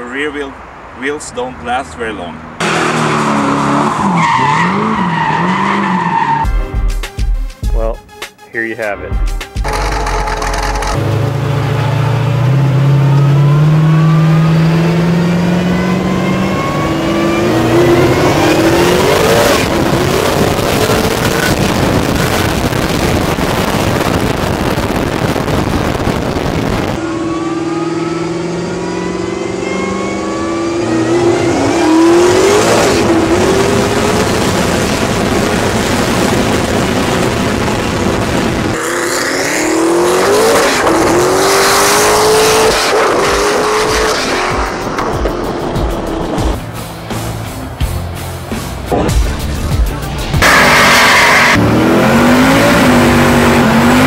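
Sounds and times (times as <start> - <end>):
truck engine accelerating through gears: 9.6 - 54.0.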